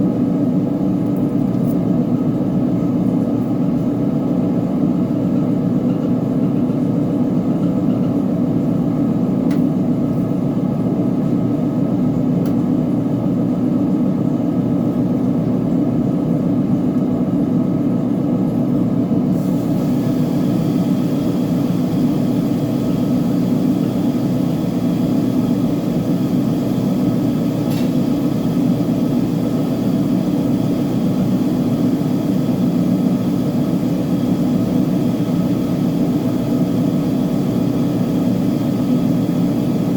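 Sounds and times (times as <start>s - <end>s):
washing machine drone: 0.0s - 39.9s.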